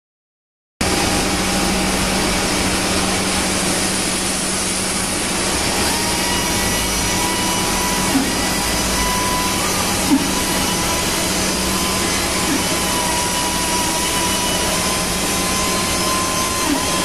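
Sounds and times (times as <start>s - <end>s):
router spindle running: 0.8s - 17.0s.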